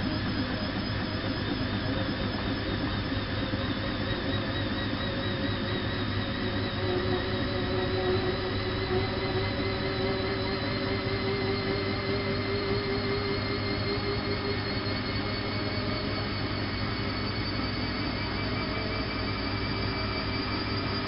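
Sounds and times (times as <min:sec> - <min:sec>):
washing machine motor whine: 0:00.0 - 0:21.0.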